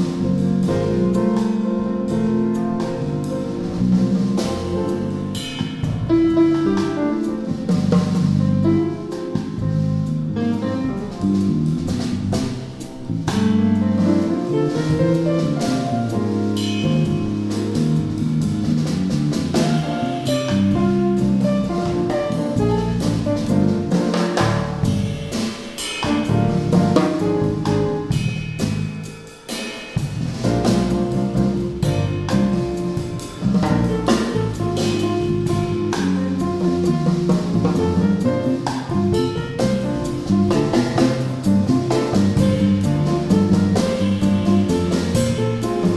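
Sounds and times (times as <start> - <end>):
walking bass line: 0.0 - 25.3, 26.3 - 29.0, 30.0 - 45.9
busy drumming with cymbals: 0.0 - 45.9
piano chords and runs: 0.0 - 45.9.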